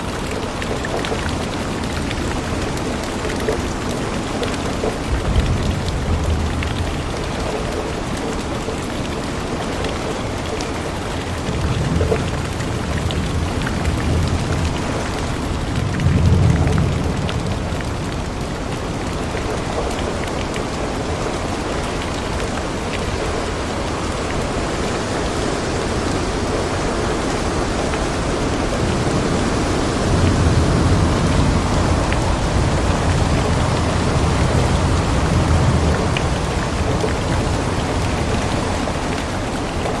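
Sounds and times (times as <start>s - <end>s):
thunder rumbling: 0.0s - 10.0s, 11.2s - 21.4s, 26.0s - 40.0s
rain on a window pane: 0.0s - 40.0s.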